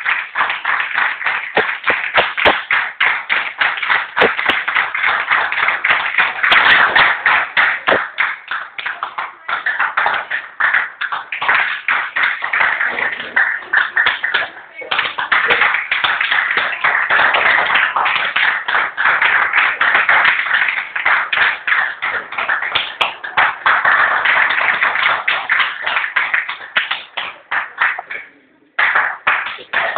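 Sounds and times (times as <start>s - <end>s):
audience applauding: 0.0s - 29.9s.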